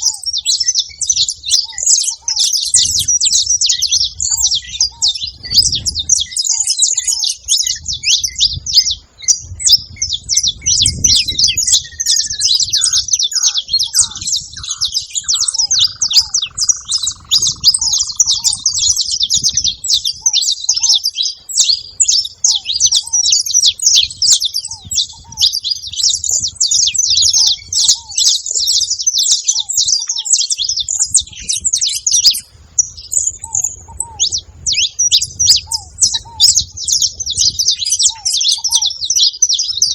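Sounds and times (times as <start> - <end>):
dove low calls: 0.0 - 39.9
finch chirps and trills: 0.0 - 39.9.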